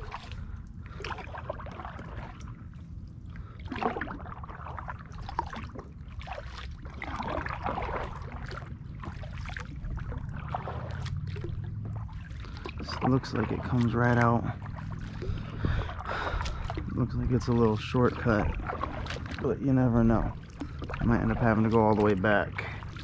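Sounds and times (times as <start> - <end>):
paddle splashing in water: 0.0 - 23.0.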